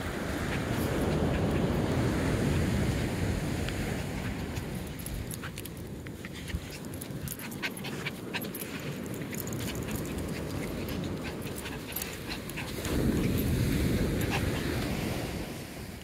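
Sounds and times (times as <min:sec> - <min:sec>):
dog panting: 0:00.2 - 0:02.3, 0:03.9 - 0:15.3.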